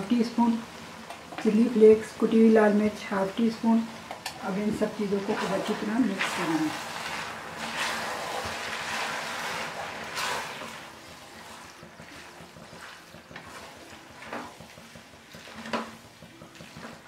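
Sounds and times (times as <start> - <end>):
noodles frying hiss: 0.0 - 17.0.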